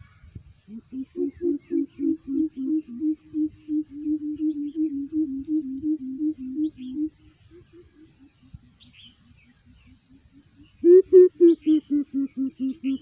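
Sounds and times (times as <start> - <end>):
deep bird hoots: 0.7 - 8.6, 9.8 - 13.0.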